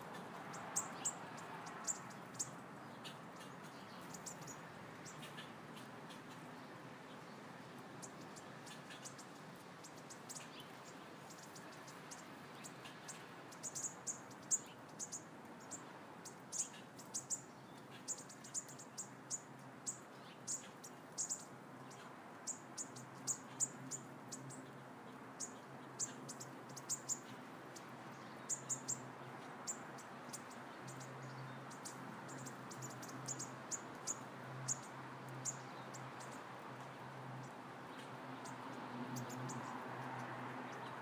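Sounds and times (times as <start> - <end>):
bird chirping: 0.0 - 7.4, 8.0 - 41.0.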